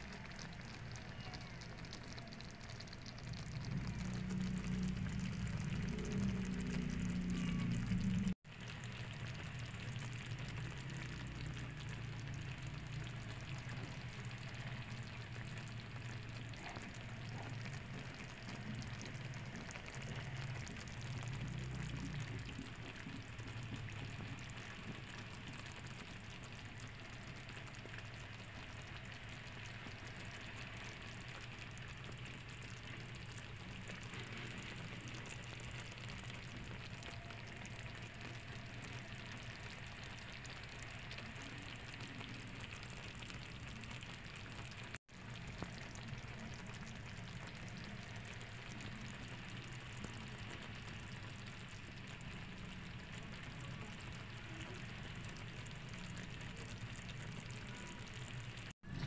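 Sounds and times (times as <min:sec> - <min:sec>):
curry sizzling in a pan: 0:00.0 - 0:59.0
low steady hum: 0:00.0 - 0:59.0.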